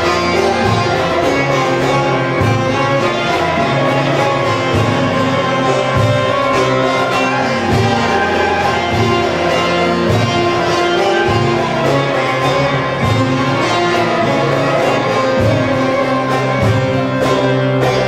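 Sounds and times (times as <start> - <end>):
folk string instruments: 0.0 - 18.0
steady percussion beat: 0.0 - 18.0.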